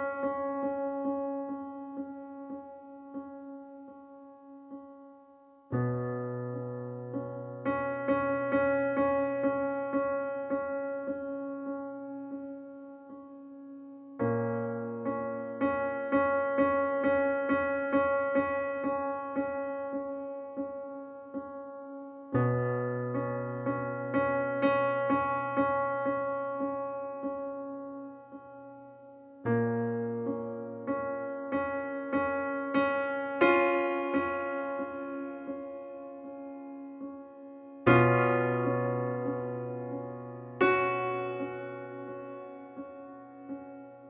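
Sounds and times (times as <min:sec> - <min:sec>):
gentle piano music: 0:00.0 - 0:44.0.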